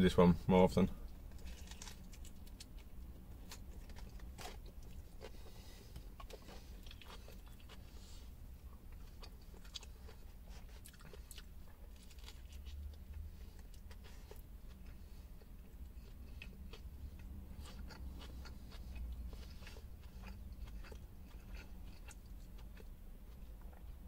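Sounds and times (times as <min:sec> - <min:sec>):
steady low hum: 0:00.0 - 0:24.0
person chewing a wrap: 0:01.0 - 0:24.0.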